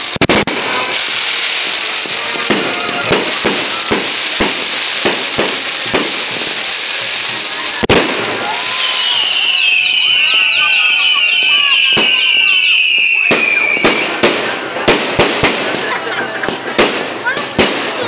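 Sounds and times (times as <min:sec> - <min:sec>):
fireworks crackling hiss: 0:00.0 - 0:18.0
fireworks sharp bangs: 0:00.0 - 0:18.0.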